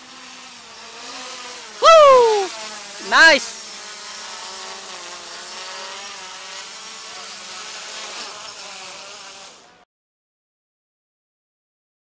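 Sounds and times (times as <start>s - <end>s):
drone propellers buzzing: 0.0s - 9.6s.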